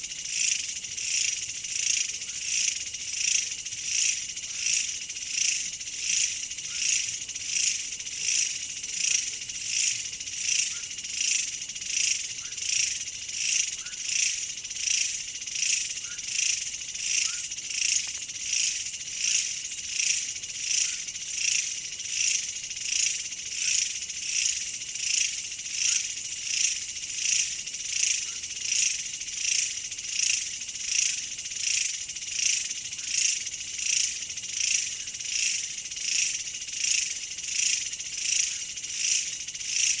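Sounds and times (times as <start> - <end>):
insects calling in shrill pulses: 0.0 - 40.0.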